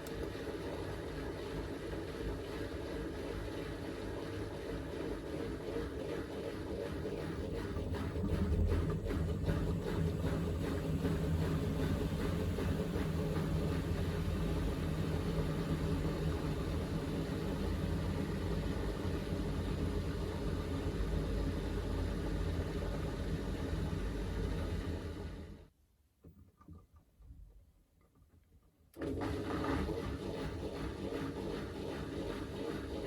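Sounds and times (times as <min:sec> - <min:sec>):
washing machine spinning: 0:00.1 - 0:25.6, 0:29.0 - 0:33.0.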